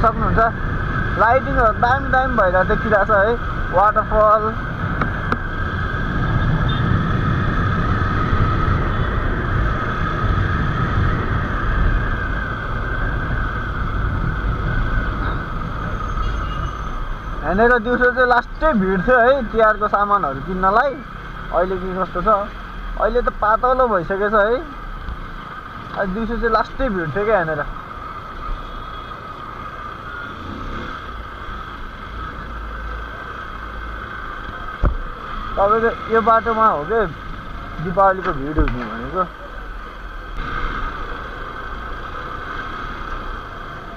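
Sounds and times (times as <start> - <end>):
motorcycle engine hum: 0.0 - 43.9
wind and road rush: 0.0 - 43.9.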